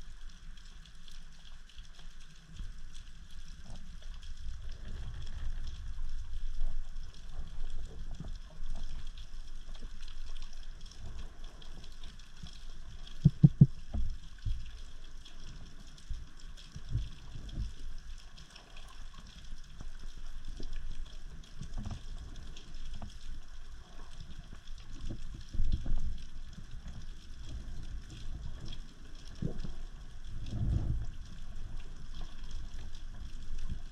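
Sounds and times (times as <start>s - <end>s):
underwater crackle and hiss: 0.0s - 33.9s
low underwater rumbling: 1.6s - 33.9s.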